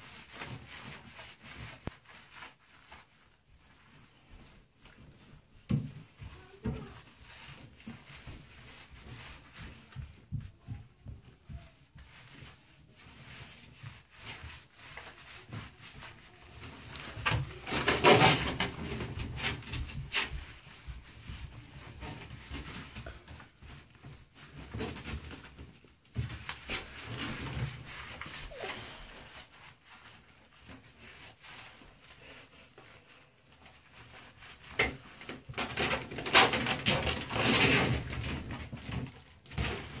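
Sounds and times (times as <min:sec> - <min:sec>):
rubbing and handling noises: 0:00.0 - 0:40.0.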